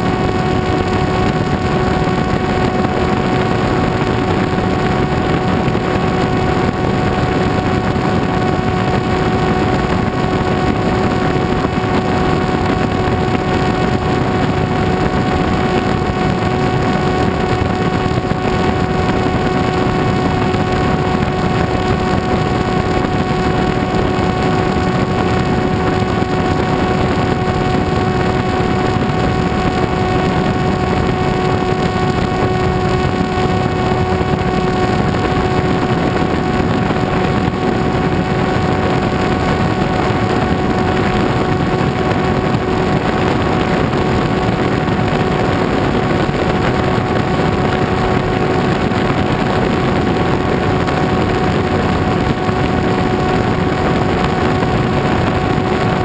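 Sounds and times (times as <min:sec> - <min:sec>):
electric motor whine: 0:00.0 - 0:56.0
rushing wind noise: 0:00.0 - 0:56.0.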